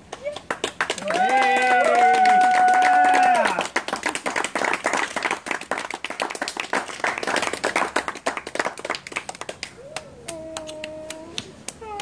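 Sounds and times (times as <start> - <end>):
people clapping: 0.0 - 12.0.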